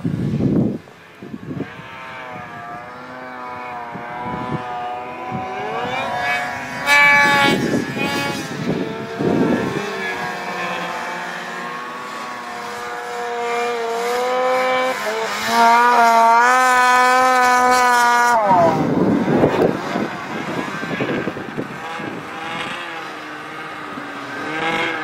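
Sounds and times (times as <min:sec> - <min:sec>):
snowmobile engine revving: 0:00.4 - 0:25.0.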